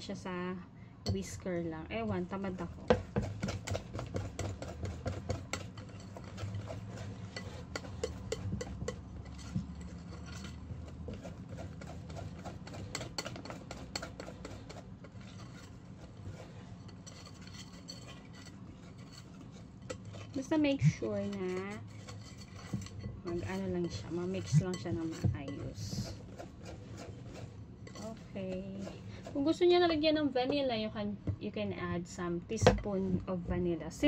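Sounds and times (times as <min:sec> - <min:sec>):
low steady hum: 0:00.0 - 0:34.0
whisk beating batter in bowl: 0:02.0 - 0:29.9.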